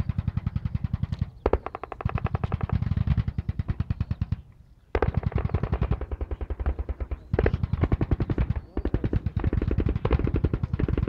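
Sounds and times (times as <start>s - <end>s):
machine-gun fire: 0.0s - 4.4s, 5.0s - 11.0s.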